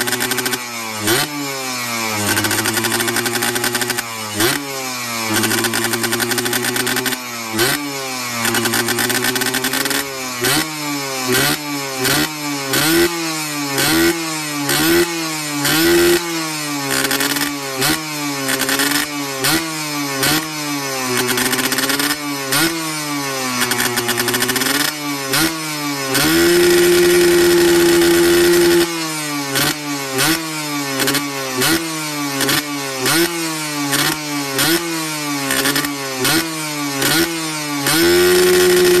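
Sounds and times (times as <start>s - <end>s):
two-stroke engine revving: 0.0s - 39.0s.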